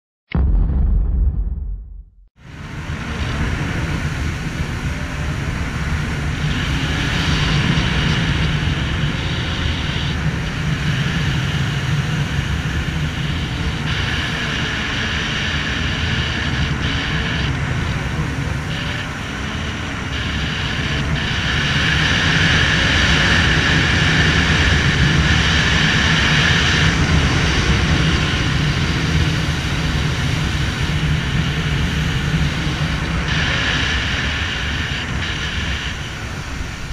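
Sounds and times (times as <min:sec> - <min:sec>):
jet ski engine drone: 0:02.4 - 0:36.9.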